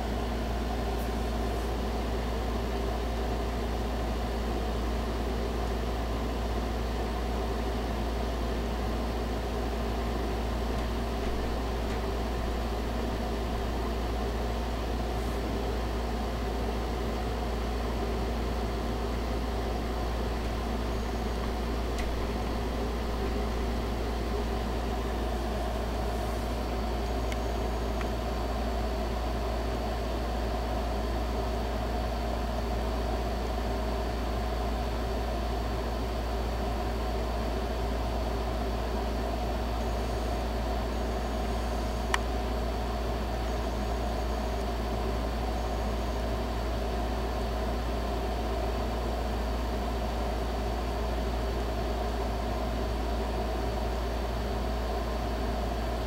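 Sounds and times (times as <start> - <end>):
mechanical hum with deep rumble: 0.0 - 56.0.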